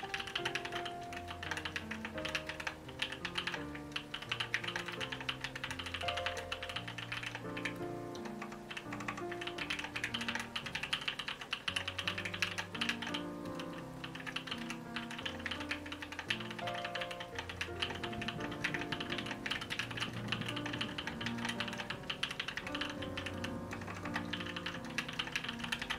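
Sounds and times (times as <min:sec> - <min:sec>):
calm background music: 0:00.0 - 0:25.9
typing on mechanical keyboard: 0:00.0 - 0:25.9.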